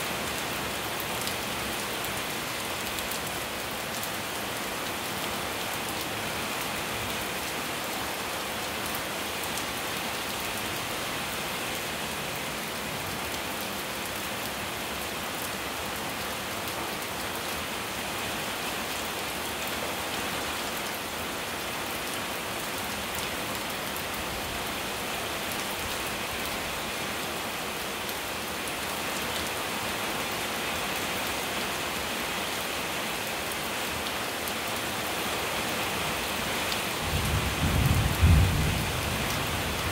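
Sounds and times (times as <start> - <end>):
steady rain on pavement and leaves: 0.0 - 39.9.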